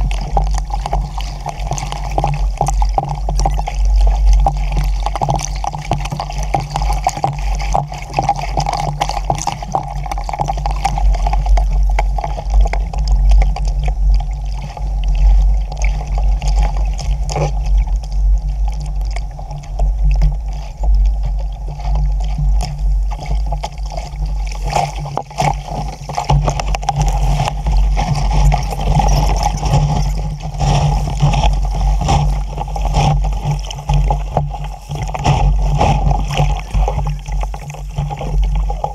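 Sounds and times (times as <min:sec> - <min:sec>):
water splashing along hull: 0:00.0 - 0:38.9
wind buffeting microphone: 0:00.0 - 0:38.9.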